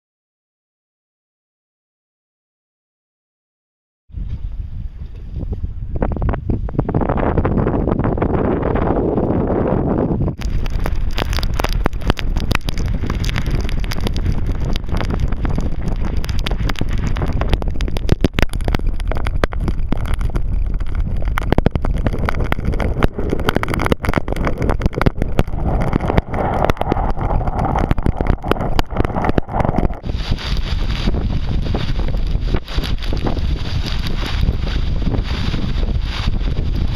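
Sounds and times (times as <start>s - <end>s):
gusty wind buffeting microphone: 4.1s - 36.9s.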